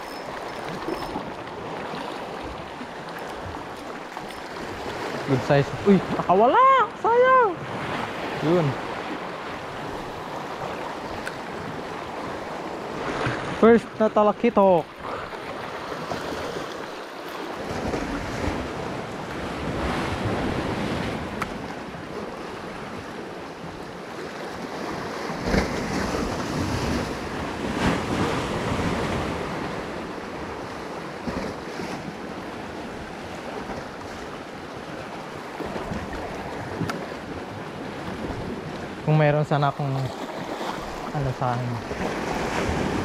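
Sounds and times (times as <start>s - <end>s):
sea surf on rocky shore: 0.0s - 43.0s.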